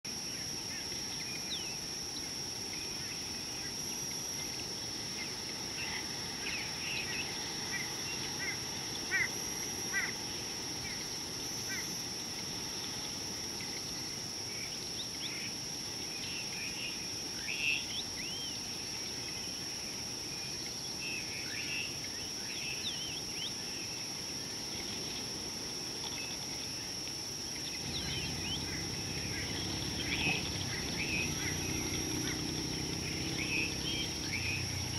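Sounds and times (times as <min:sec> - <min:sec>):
background hiss: 0:00.1 - 0:34.9.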